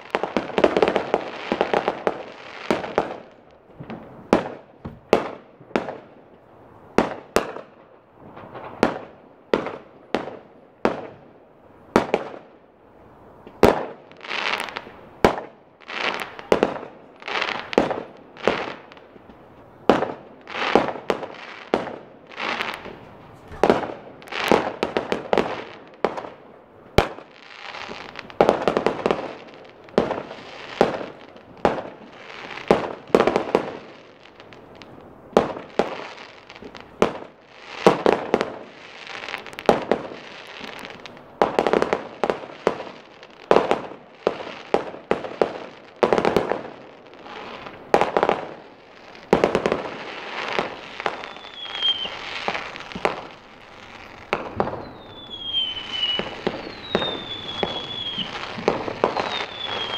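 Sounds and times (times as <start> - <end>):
fireworks bangs echoing: 0.0 - 12.6, 13.4 - 59.9.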